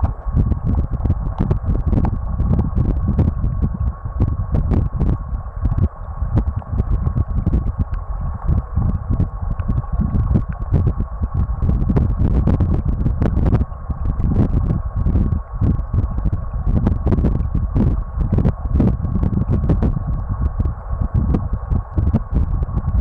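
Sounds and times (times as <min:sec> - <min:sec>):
small clicks and ticks: 0:00.0 - 0:02.2, 0:02.8 - 0:23.0
muffled underwater river rumble: 0:00.0 - 0:23.0
thin steady tone: 0:00.0 - 0:23.0.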